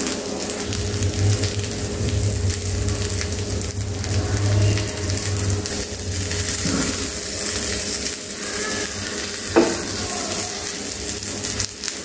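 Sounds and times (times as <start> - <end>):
egg sizzling in pan: 0.0 - 12.0.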